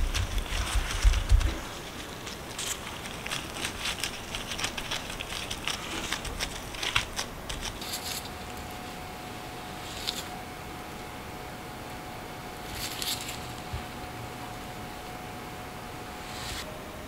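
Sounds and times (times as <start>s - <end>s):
gloves crinkling: 0.0s - 11.1s, 12.5s - 16.6s.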